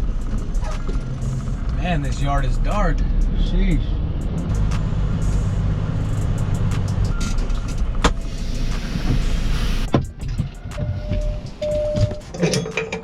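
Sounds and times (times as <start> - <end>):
truck diesel engine running: 0.0 - 12.4.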